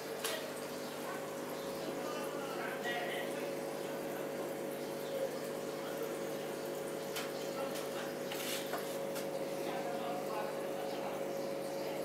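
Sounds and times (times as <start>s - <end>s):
aquarium water trickling: 0.0s - 12.0s
pump electric hum: 0.0s - 12.0s.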